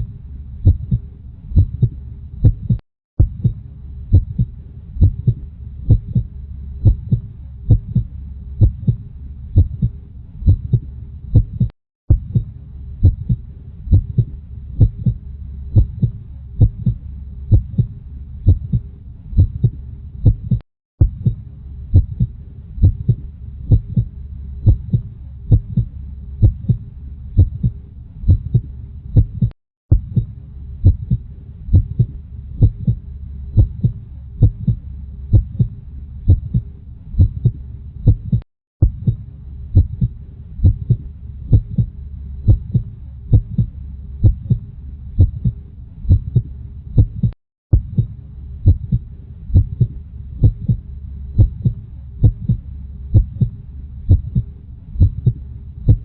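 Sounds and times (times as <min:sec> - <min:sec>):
heartbeat thumps: 0:00.0 - 0:56.0
low steady hum: 0:00.0 - 0:56.0.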